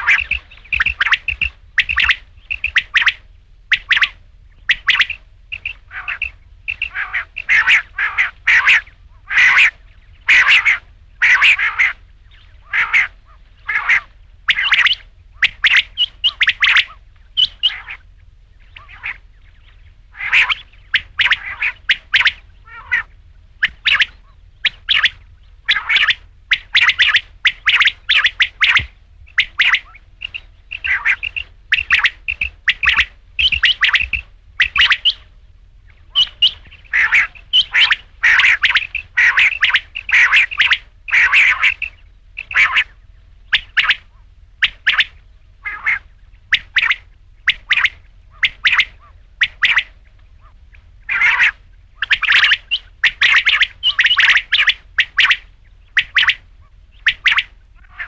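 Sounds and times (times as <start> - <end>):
quail calling sharp notes: 0.0 - 58.0.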